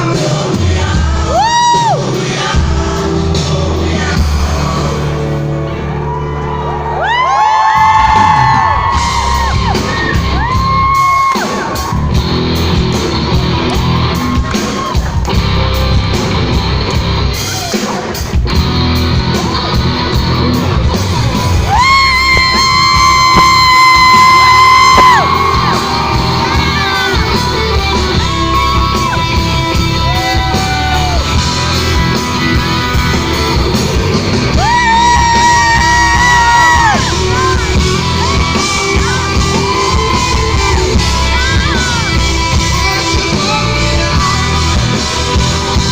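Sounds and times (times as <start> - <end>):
live band playing: 0.0 - 45.9.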